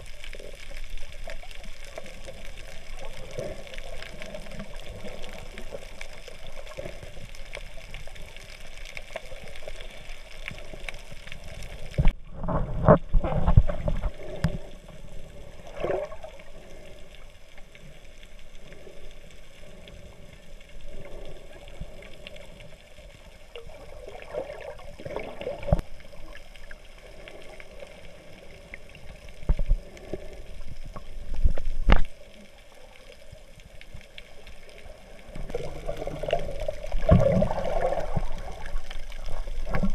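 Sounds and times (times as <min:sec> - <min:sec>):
underwater gurgling and sloshing: 0:00.0 - 0:39.9.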